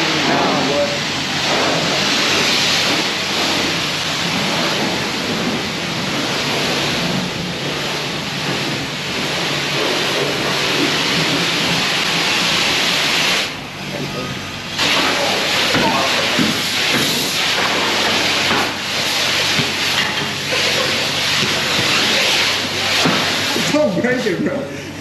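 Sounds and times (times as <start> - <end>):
pressure washer spray hissing: 0.0 - 13.8, 14.4 - 24.9.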